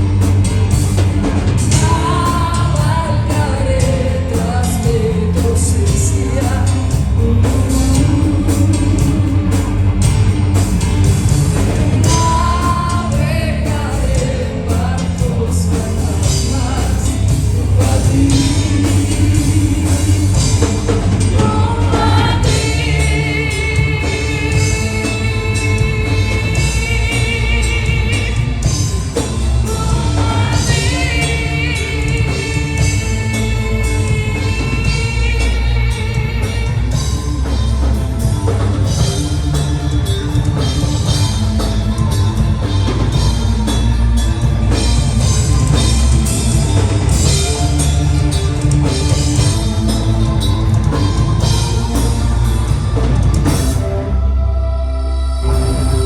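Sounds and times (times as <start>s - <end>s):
drum kit: 0.0s - 54.3s
metal band playing live: 0.0s - 54.5s
person singing: 0.0s - 56.0s.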